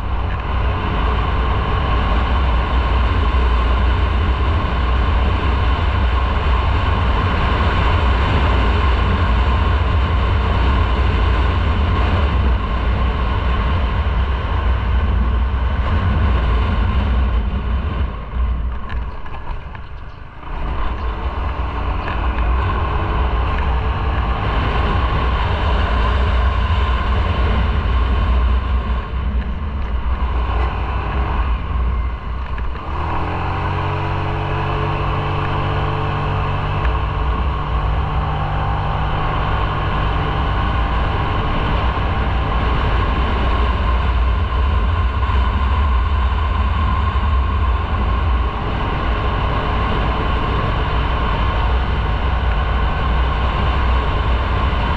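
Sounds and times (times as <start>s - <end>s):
motorcycle engine running: 0.0s - 54.9s
wind rumble on microphone: 0.0s - 54.9s.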